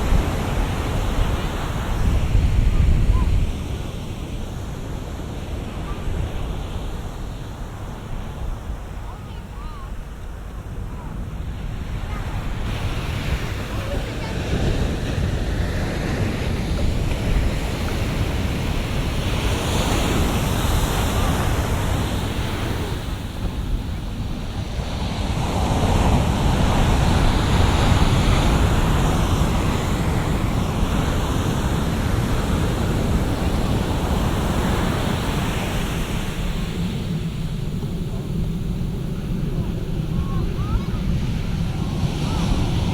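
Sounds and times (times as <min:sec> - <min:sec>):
waves breaking on shore: 0:00.0 - 0:42.9
wind buffeting microphone: 0:00.0 - 0:42.9.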